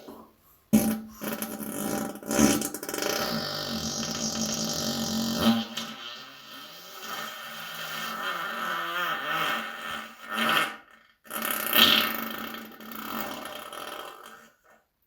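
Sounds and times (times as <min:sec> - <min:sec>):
long farts: 0:00.0 - 0:14.8.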